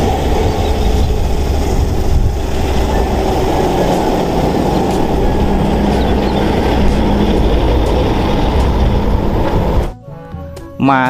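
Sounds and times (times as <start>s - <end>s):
diesel truck engine rumble: 0.0s - 10.0s
road noise: 0.0s - 10.0s.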